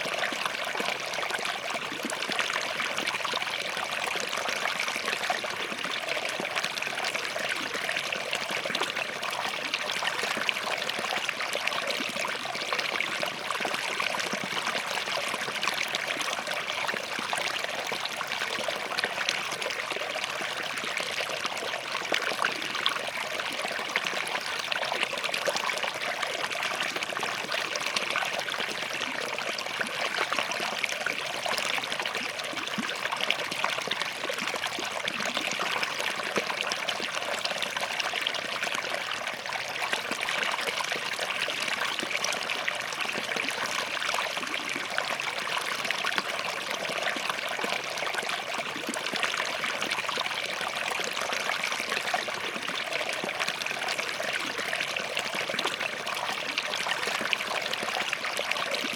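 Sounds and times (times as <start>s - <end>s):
stream trickling between rocks: 0.0s - 58.9s.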